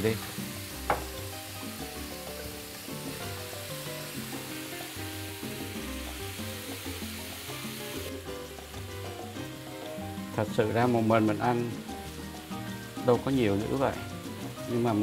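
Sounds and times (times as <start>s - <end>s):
background music: 0.0s - 15.0s
meat sizzling in a frying pan: 0.0s - 15.0s.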